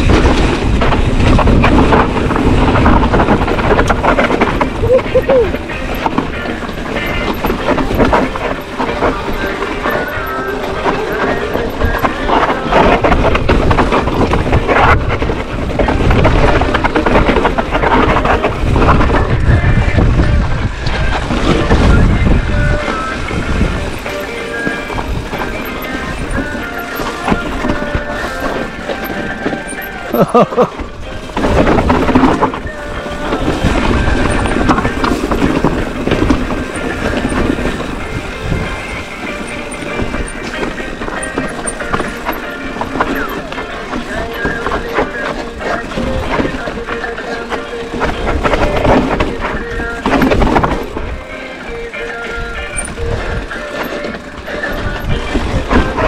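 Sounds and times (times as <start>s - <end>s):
bike tyres rumbling on dirt: 0.0s - 56.0s
wind on microphone: 0.0s - 56.0s.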